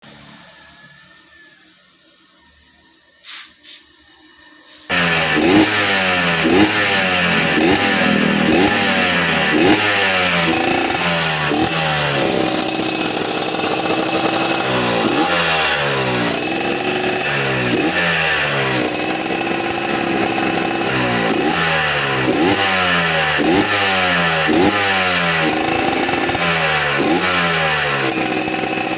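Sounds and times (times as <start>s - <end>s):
motorcycle engine revving: 4.9s - 28.9s.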